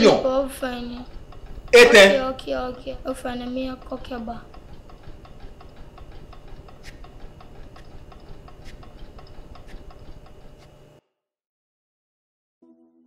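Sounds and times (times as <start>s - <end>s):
clock ticking: 0.0s - 10.9s
steady low hum: 0.0s - 11.0s.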